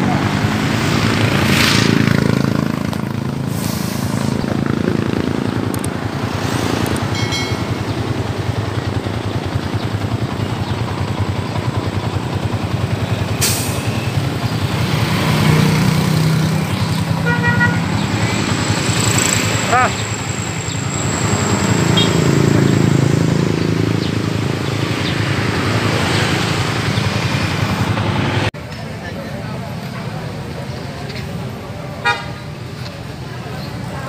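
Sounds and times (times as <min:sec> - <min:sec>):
motorcycle engines running: 0:00.0 - 0:34.0.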